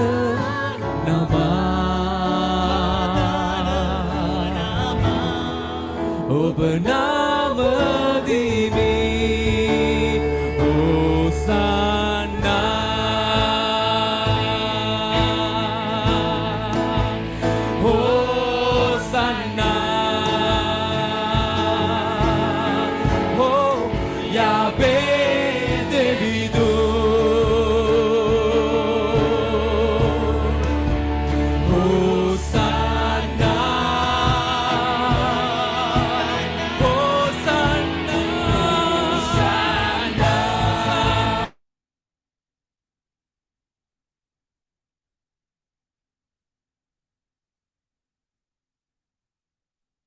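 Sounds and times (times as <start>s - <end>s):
instrumental accompaniment: 0.0s - 41.6s
person singing a hymn: 0.0s - 41.6s.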